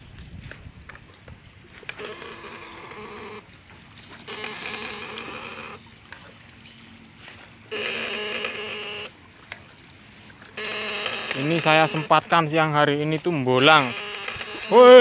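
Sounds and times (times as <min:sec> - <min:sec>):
electric fish shocker buzzing: 0:01.7 - 0:15.0.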